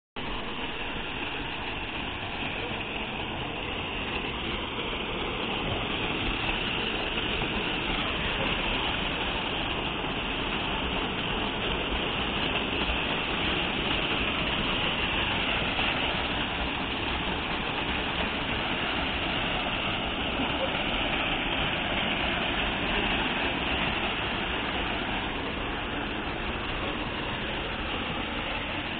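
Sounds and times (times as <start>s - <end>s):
waterfall rushing splash: 0.2s - 28.9s.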